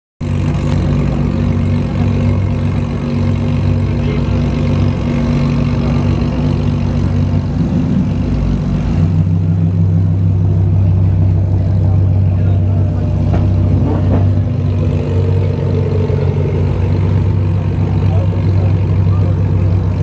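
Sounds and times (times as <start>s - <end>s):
car engine idling: 0.2s - 20.0s.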